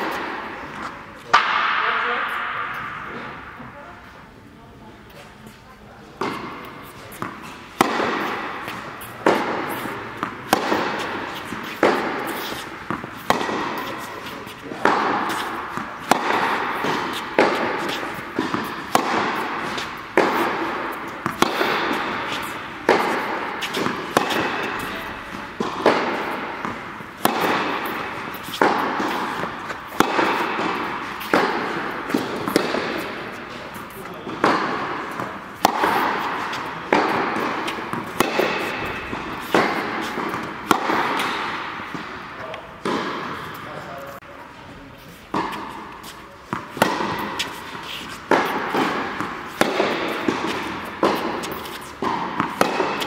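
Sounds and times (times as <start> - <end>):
racket hitting tennis ball with echo: 0.0 - 4.4, 6.2 - 44.2, 45.0 - 53.0.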